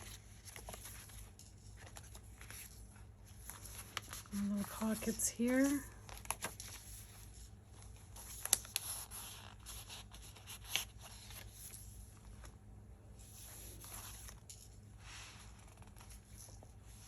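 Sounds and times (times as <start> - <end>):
paper pages rustling: 0.0 - 12.6, 13.2 - 17.0.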